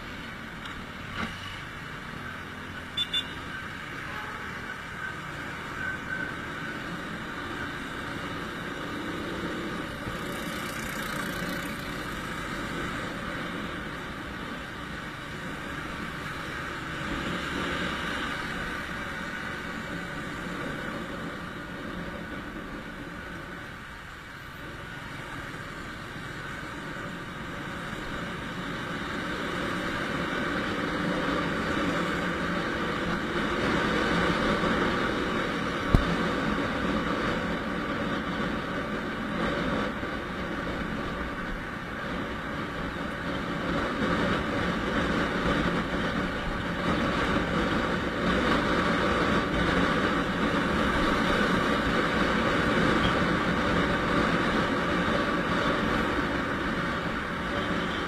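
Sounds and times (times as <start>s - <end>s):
motorcycle engine drone: 0.0s - 58.0s
wind and road noise: 0.0s - 58.0s.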